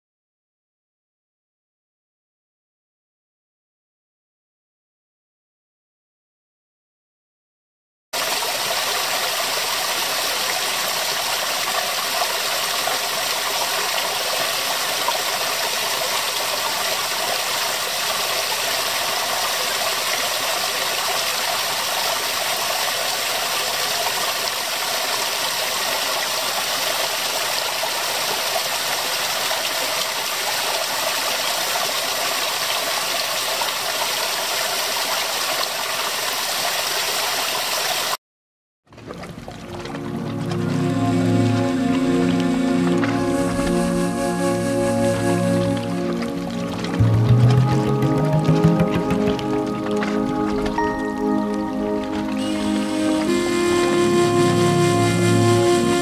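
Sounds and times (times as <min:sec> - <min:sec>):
waterfall splashing into pool: 0:08.2 - 0:38.2, 0:38.9 - 0:55.4.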